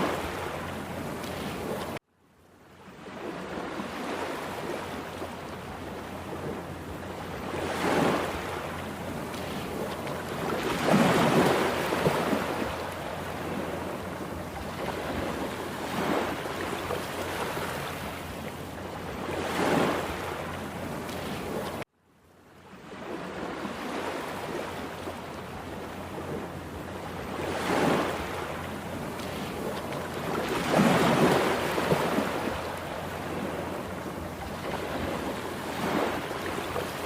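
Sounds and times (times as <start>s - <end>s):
big waves crashing: 0.0s - 2.0s, 2.9s - 21.8s, 22.8s - 37.0s
rough sea surf breaking: 3.0s - 21.8s, 22.9s - 37.0s.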